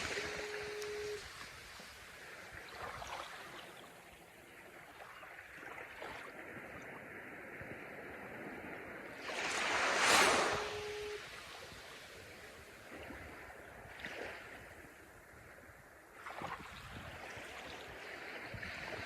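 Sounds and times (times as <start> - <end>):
faint steady tone: 0.0 - 15.8
ocean surf on shore: 0.0 - 19.0.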